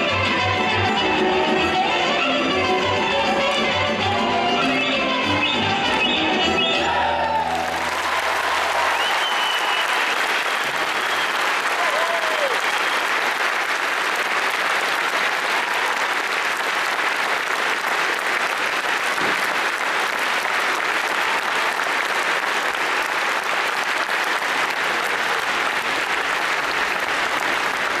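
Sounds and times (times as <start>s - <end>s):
audience applauding: 0.2s - 28.0s.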